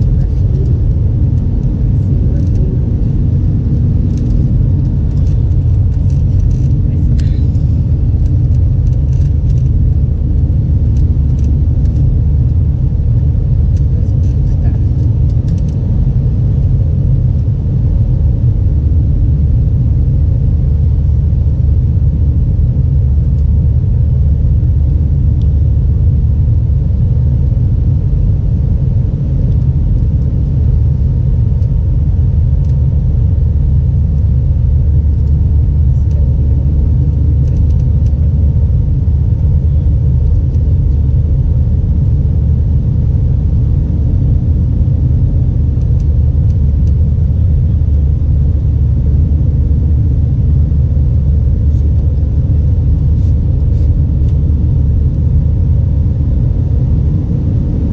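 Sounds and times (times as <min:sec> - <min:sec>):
aircraft cabin engine rumble: 0:00.0 - 0:57.9
faint steady hum: 0:00.0 - 0:57.9.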